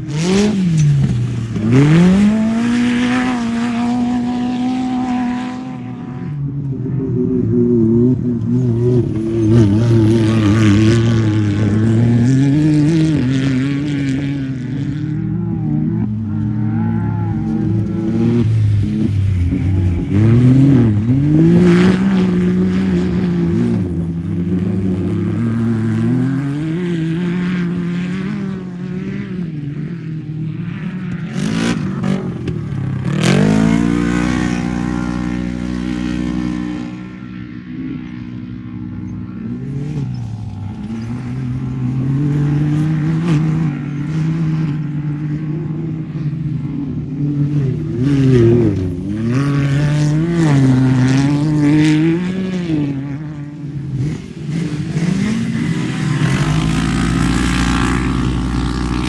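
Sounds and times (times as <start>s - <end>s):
race vehicle engine revving: 0.0s - 30.0s, 30.7s - 37.1s, 47.5s - 59.0s.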